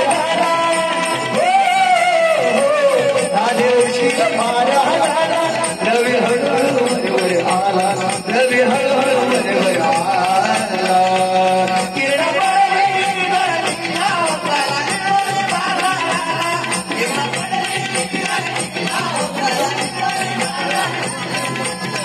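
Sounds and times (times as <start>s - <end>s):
jingling rhythmic percussion: 0.0s - 22.0s.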